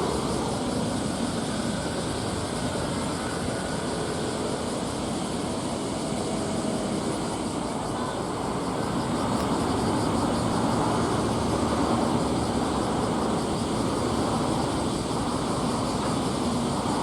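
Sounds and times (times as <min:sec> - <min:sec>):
ferry engine drone: 0:00.0 - 0:17.0.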